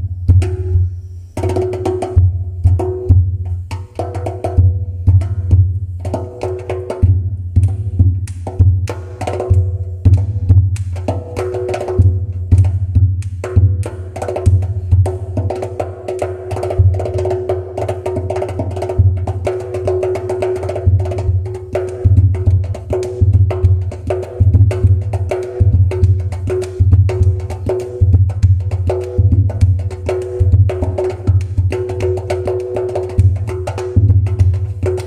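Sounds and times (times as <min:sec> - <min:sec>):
rhythmic percussion music: 0:00.0 - 0:35.0.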